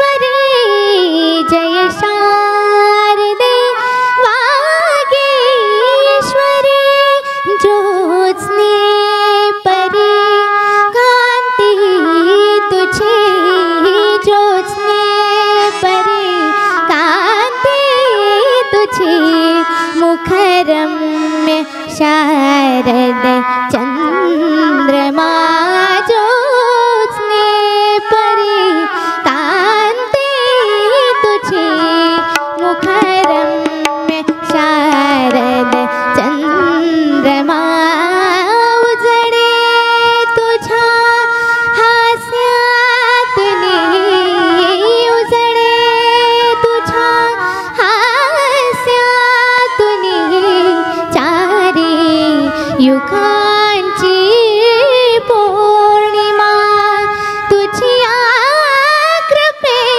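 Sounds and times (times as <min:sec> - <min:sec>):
girl singing melismatic vocals: 0:00.0 - 0:59.9
instrumental accompaniment: 0:00.0 - 0:59.9.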